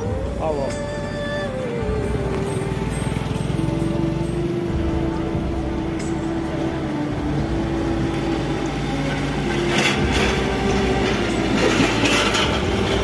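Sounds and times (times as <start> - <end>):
vehicle rumble with droning hum: 0.0 - 13.0.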